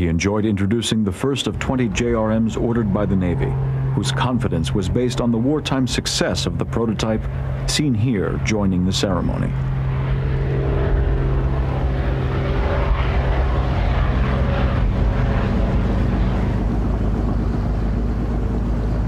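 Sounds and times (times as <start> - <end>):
propeller aircraft engine drone: 0.0 - 19.0.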